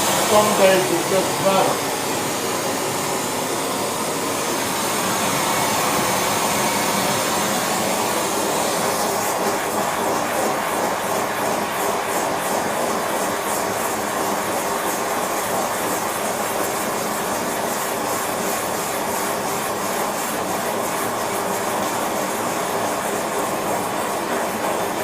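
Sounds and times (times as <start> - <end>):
gas torch flame rushing: 0.0 - 21.2.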